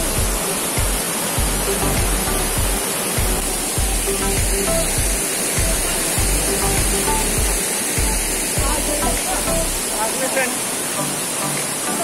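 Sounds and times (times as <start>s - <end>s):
background music with bass beat: 0.0s - 9.8s
waterfall rushing: 0.0s - 12.0s.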